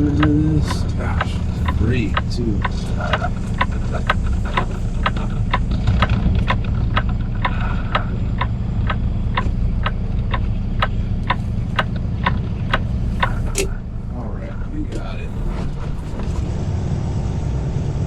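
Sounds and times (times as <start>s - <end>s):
turn signal ticking: 0.0s - 16.6s
truck engine running: 0.0s - 18.0s.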